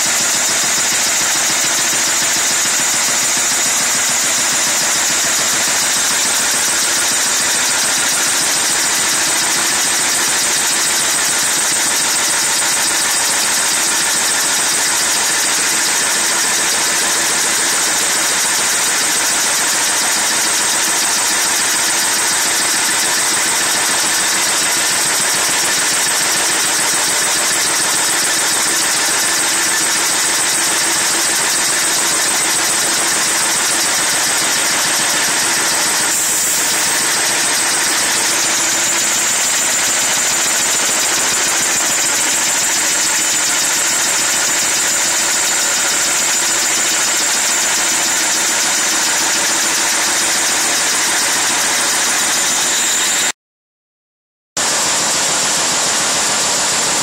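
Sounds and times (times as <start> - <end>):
sawmill saw running: 0.0 - 53.3, 54.6 - 57.0.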